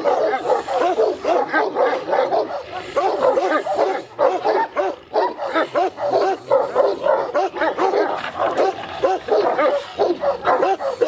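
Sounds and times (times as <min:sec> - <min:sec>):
large dogs barking: 0:00.0 - 0:11.0.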